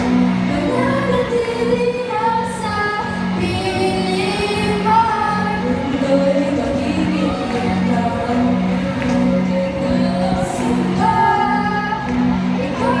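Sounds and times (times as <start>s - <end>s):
bass guitar: 0.0s - 13.0s
electric guitar: 0.0s - 13.0s
keyboard: 0.0s - 13.0s.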